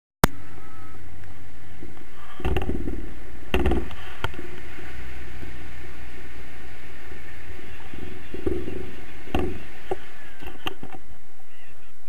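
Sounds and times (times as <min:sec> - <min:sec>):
wind rushing over microphone: 0:00.2 - 0:12.0.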